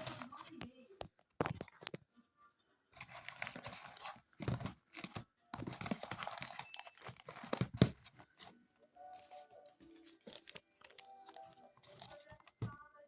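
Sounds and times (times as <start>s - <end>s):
plastic crinkling and rustling: 0.0s - 0.7s, 3.0s - 13.0s.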